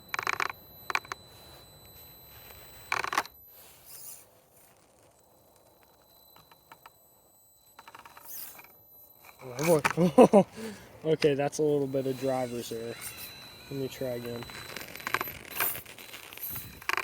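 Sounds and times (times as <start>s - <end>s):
toy truck motor whirring: 0.0s - 17.0s.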